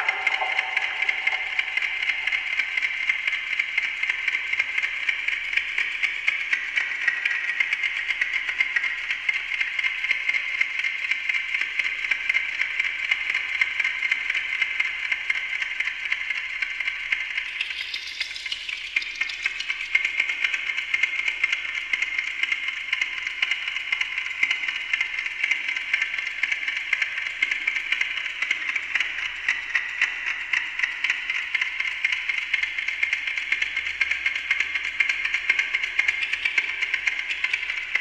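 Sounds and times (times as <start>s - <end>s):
clock ticking with delay echoes: 0.0s - 38.0s.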